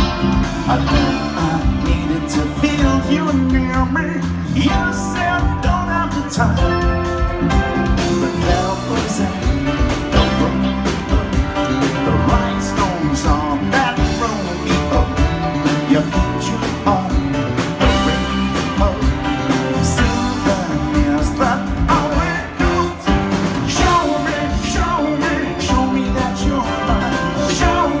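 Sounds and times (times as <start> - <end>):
live pop-rock band playing: 0.0 - 28.0
man singing into a microphone: 0.6 - 7.1, 8.1 - 28.0.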